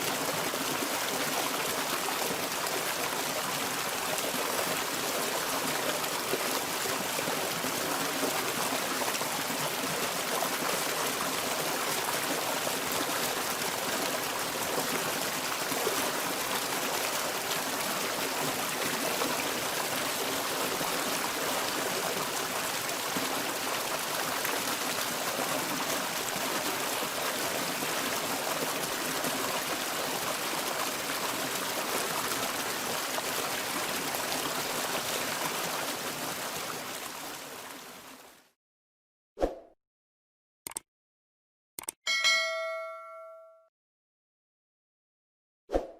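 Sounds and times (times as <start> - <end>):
turbulent water flowing: 0.0 - 38.3.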